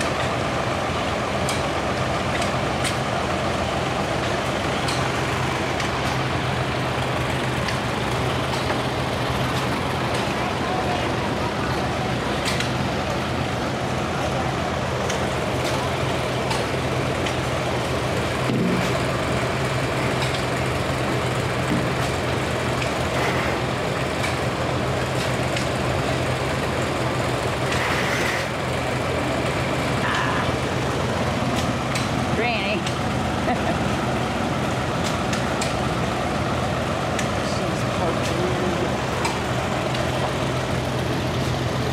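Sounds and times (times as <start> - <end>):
tractor engines droning: 0.0 - 41.9.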